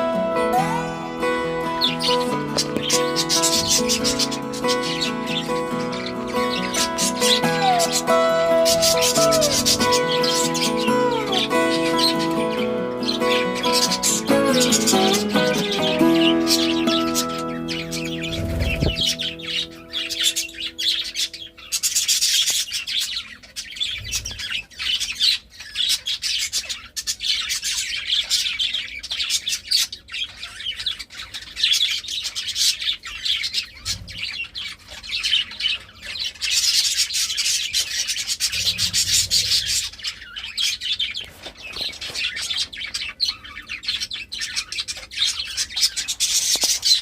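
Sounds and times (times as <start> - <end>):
budgerigars chattering and warbling: 1.4 - 47.0.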